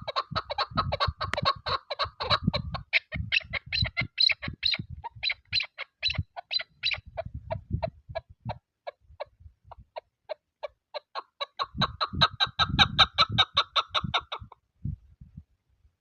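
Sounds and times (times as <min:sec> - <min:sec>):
wind buffeting microphone: 0:00.0 - 0:10.0, 0:11.6 - 0:15.6
partridge clucking calls: 0:00.0 - 0:14.6.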